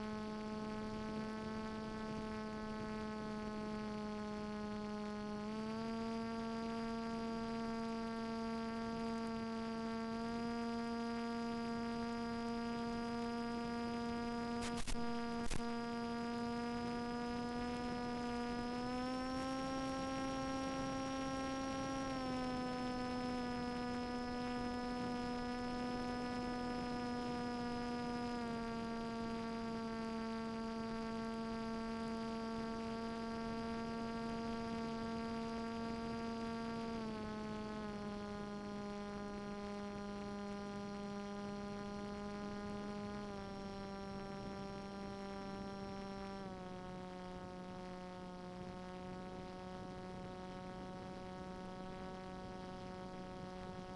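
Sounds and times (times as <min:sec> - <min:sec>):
electric motor and propeller whine: 0:00.0 - 0:53.9.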